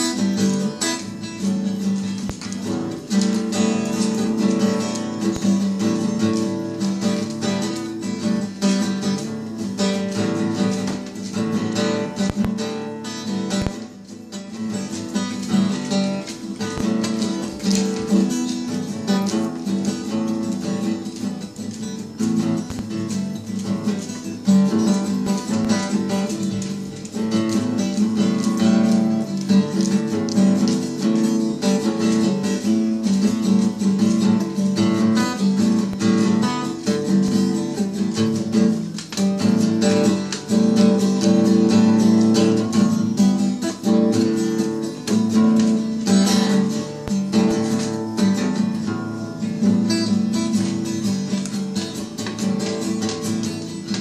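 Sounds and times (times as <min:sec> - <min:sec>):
acoustic guitar chords: 0:00.0 - 0:54.0.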